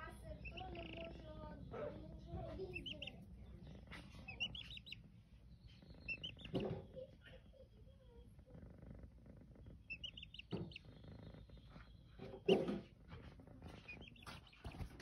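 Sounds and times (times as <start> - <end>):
chick peeping: 0.0 - 12.8, 13.6 - 15.0
kittens purring: 0.0 - 15.0.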